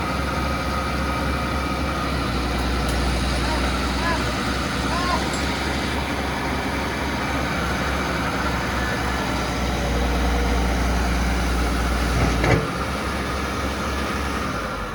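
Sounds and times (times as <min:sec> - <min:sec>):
excavator diesel engine rumbling: 0:00.0 - 0:14.9.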